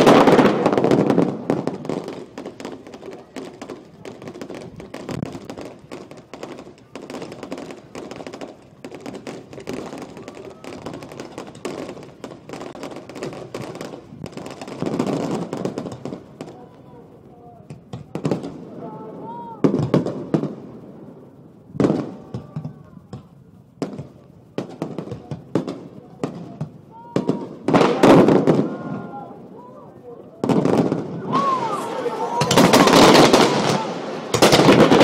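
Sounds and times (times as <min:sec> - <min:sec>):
fireworks crackling pops: 0:00.0 - 0:35.0.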